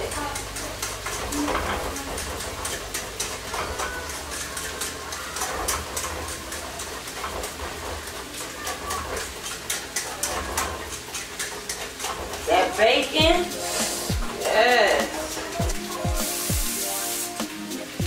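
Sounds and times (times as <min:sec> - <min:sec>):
potatoes sizzling in a pan: 0:00.1 - 0:18.0.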